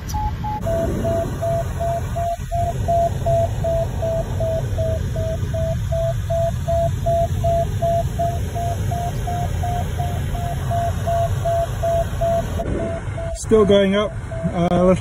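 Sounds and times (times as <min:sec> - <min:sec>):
variometer beeping: 0:00.0 - 0:15.0
airflow rush in cockpit: 0:00.4 - 0:15.0.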